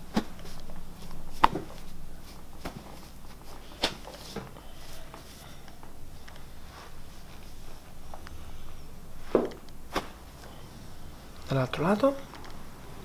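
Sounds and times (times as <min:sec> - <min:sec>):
soft rustling: 0:00.0 - 0:12.5.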